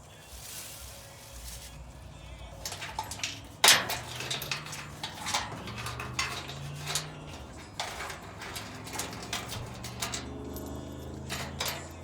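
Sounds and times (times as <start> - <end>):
dryer parts clicking and clattering: 2.0 - 12.0.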